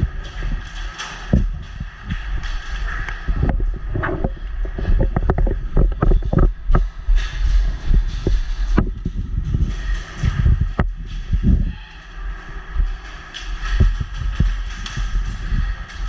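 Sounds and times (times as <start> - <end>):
low thumps and knocks: 0.0 - 16.0
steady low rumble: 0.0 - 16.0.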